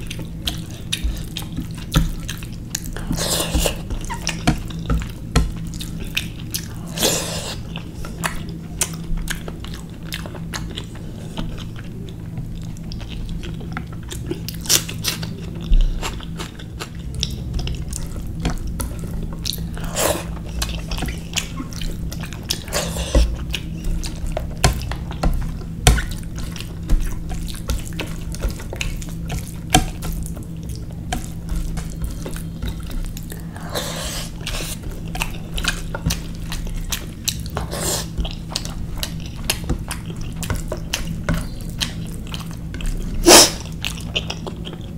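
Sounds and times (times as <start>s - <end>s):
steady low hum: 0.0s - 44.9s
wet chewing and lip-smacking: 0.0s - 44.9s.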